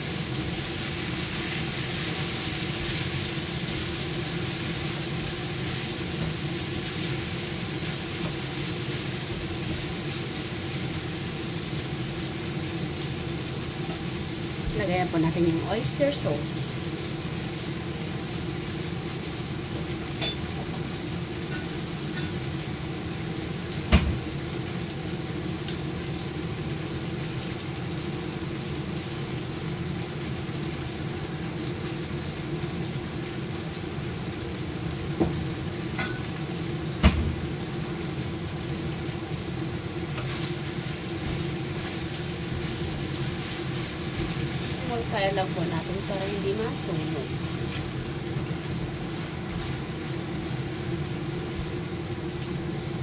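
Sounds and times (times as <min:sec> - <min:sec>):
food sizzling in a frying pan: 0:00.0 - 0:53.0.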